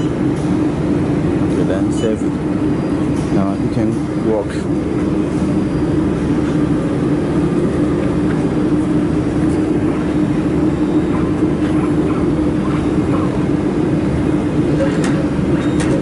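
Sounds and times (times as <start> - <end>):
machine fans whirring: 0.0 - 16.0.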